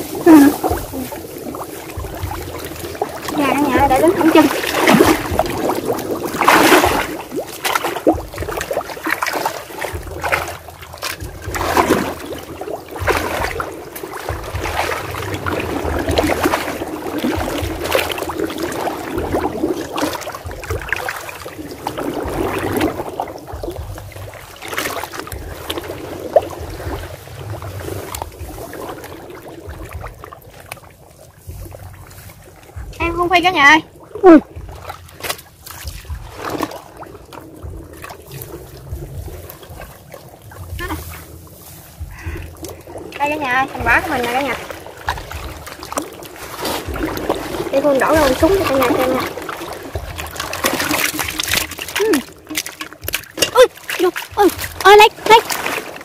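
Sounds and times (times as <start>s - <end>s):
sloshing through muddy water: 0.0s - 56.0s.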